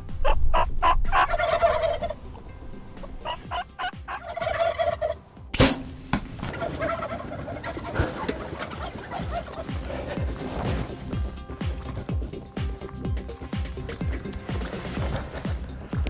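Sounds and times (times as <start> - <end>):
turkeys gobbling: 0.0 - 12.5, 13.3 - 15.9.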